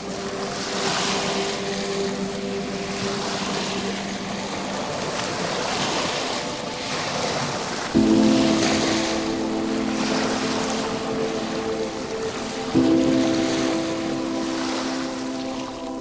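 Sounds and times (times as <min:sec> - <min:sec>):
low sustained music tones: 0:00.0 - 0:16.0
ocean surf washing: 0:00.0 - 0:16.0.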